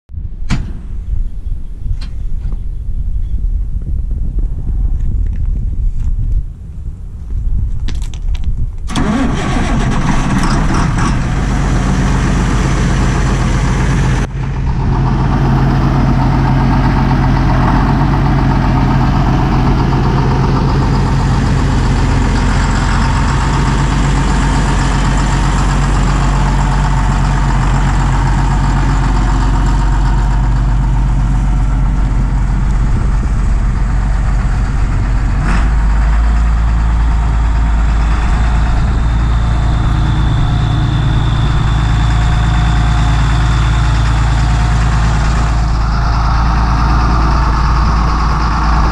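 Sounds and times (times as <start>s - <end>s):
tractor diesel engine idling: 8.9s - 48.9s.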